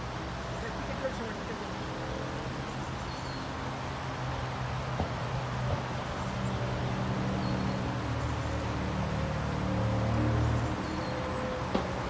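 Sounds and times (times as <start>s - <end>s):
river water: 0.0s - 12.0s.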